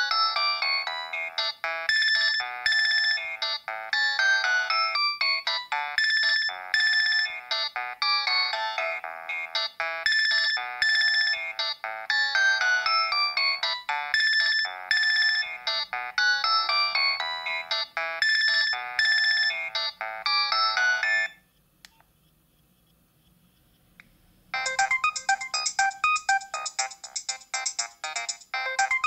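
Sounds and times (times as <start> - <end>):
mobile phone ringtone melody: 0.0 - 21.4, 24.6 - 29.0.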